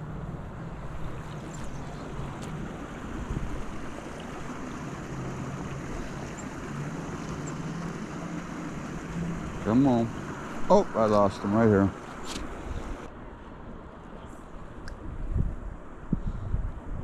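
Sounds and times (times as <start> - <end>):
wind buffeting microphone: 0.0 - 13.1, 14.9 - 17.0
creek water flowing: 0.0 - 13.9.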